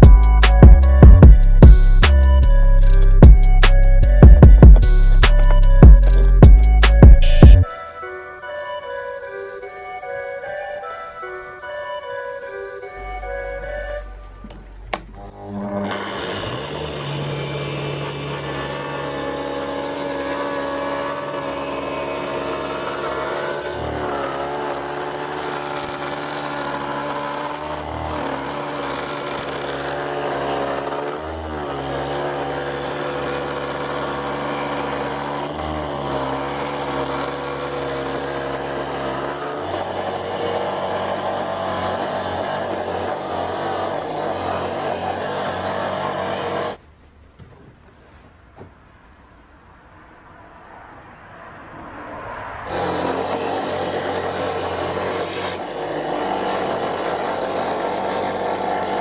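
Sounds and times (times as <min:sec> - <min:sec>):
angle grinder grinding: 0:00.0 - 0:08.2, 0:09.0 - 0:46.8, 0:52.6 - 0:59.0.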